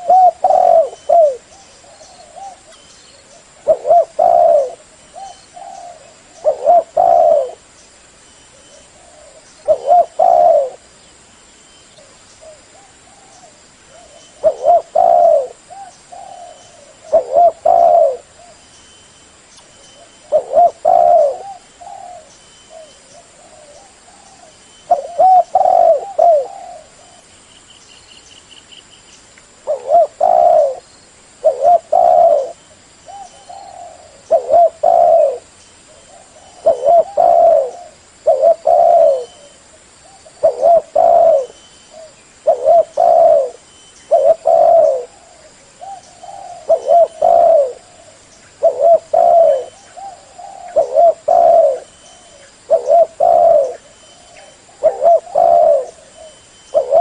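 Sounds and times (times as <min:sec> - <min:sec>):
dove cooing: 0:00.0 - 0:07.7, 0:08.5 - 0:10.9, 0:12.0 - 0:18.6, 0:20.0 - 0:27.3, 0:29.6 - 0:57.0.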